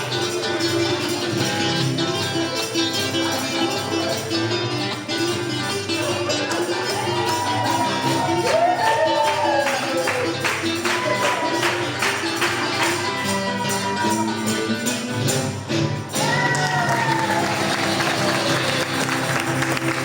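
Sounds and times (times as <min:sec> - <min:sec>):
person singing folk melody: 0:00.0 - 0:20.0
rhythmic percussion strikes: 0:00.0 - 0:20.0.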